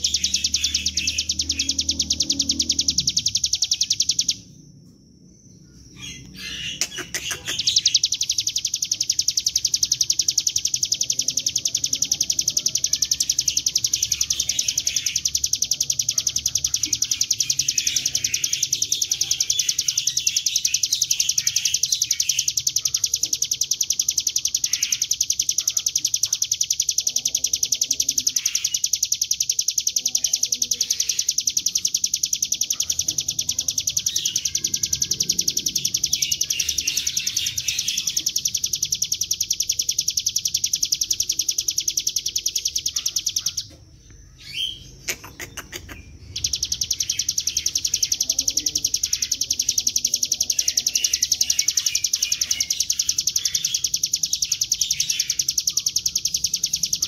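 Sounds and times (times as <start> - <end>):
bird singing rapid trill: 0.0 - 57.0
short bird chirps: 5.7 - 57.0.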